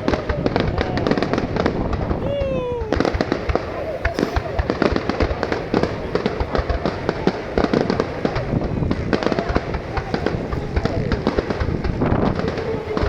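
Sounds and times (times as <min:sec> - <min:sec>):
fireworks banging and crackling: 0:00.0 - 0:13.0
people's voices: 0:00.0 - 0:13.0.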